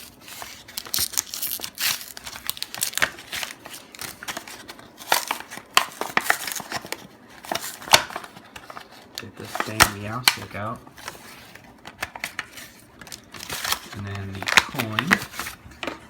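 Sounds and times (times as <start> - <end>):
plastic packaging crinkling and ripping: 0.0 - 16.0.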